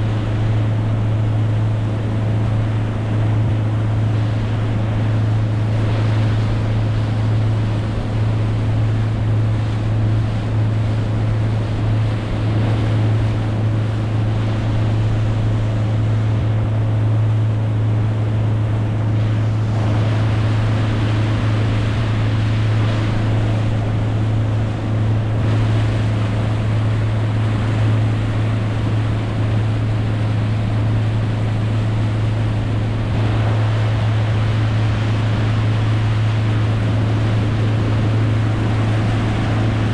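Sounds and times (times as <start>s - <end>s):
boat engine droning: 0.0s - 39.9s
rushing wind: 0.0s - 39.9s
water rushing: 0.0s - 39.9s.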